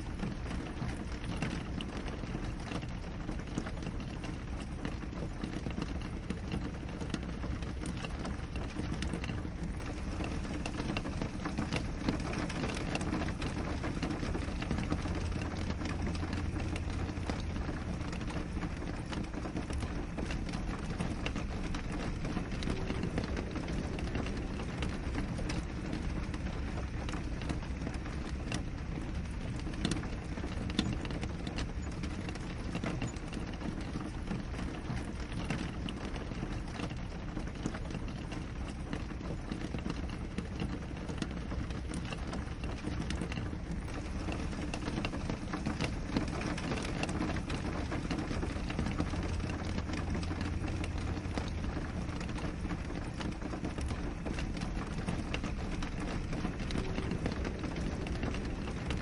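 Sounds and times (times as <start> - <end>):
raindrops ticking on glass: 0.0 - 59.0
steady rain: 0.0 - 59.0.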